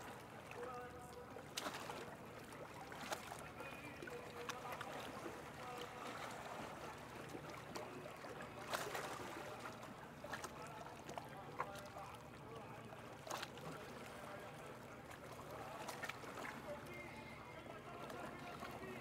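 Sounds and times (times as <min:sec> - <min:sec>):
sea water lapping: 0:00.0 - 0:19.0
water splashes: 0:00.0 - 0:19.0.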